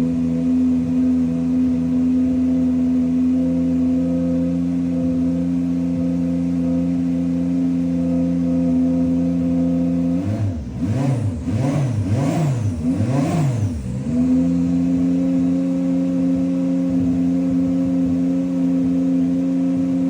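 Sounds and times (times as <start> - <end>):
race car engine idling: 0.0 - 20.0
engine revving: 3.5 - 20.0.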